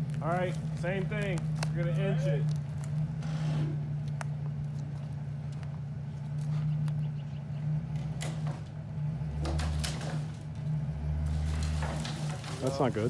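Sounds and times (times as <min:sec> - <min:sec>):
branches snapping and crackling: 0:00.0 - 0:03.3, 0:03.9 - 0:07.1, 0:07.8 - 0:13.0
truck engine running: 0:00.0 - 0:13.0.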